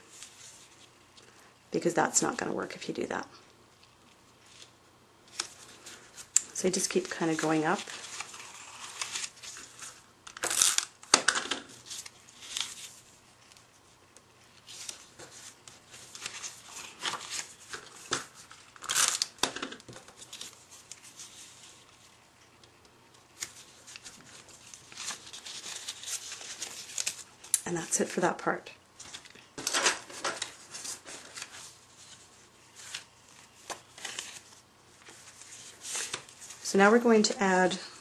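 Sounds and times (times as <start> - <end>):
paper rustling and crinkling: 3.8 - 27.5, 29.0 - 36.7.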